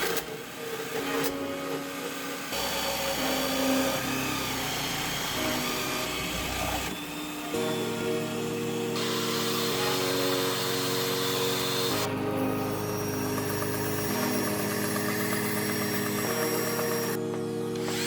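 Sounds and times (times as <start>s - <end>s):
workshop power tools running: 0.0s - 18.0s.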